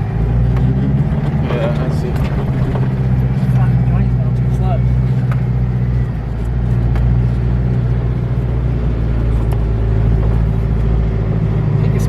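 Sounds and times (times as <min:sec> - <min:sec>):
engine labouring at low revs: 0:00.0 - 0:12.0.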